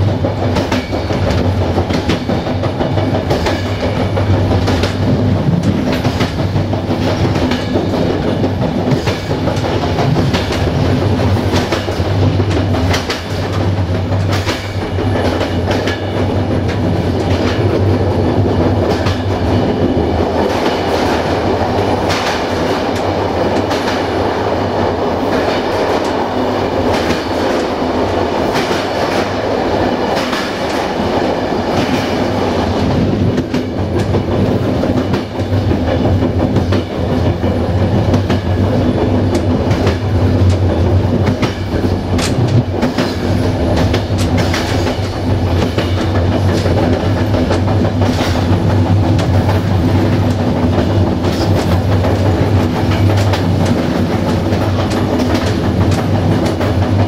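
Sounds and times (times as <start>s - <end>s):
train wheels rumbling on rails: 0.0s - 57.0s
wheels clacking over rail joints: 0.0s - 57.0s.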